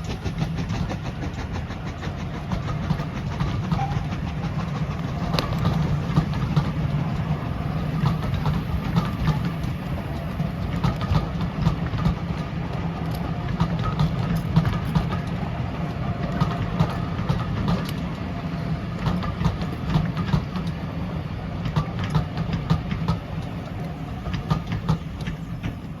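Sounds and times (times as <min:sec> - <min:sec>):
train rumbling past: 0:00.0 - 0:26.0
wheels clicking over rail joints: 0:00.0 - 0:26.0.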